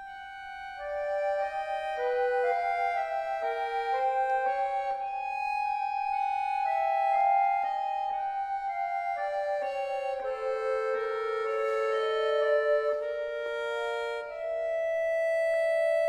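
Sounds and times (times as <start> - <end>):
accordion playing: 0.0 - 16.0.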